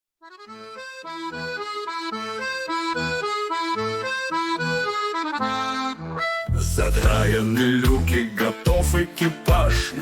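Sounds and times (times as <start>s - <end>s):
instrumental song melody: 0.2s - 10.0s.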